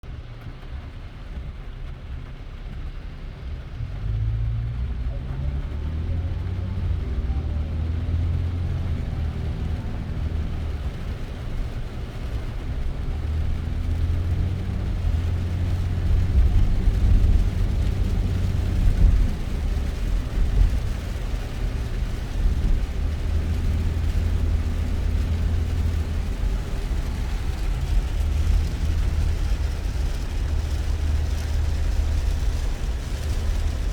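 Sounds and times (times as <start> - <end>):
engine and tyre rumble: 0.0 - 33.9.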